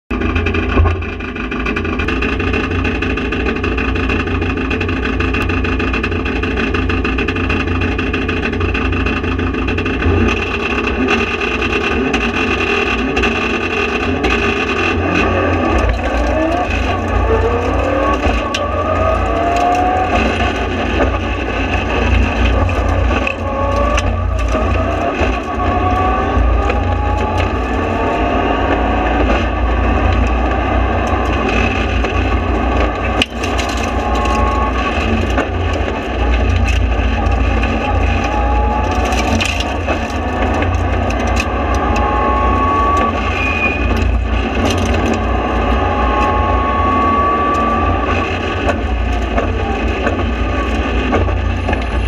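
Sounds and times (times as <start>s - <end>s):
car engine drone from cabin: 0.1s - 52.0s.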